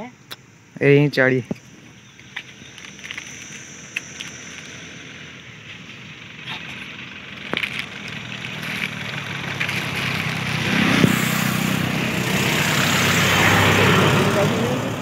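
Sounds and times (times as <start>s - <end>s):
motor vehicle engine approaching: 1.6s - 15.0s.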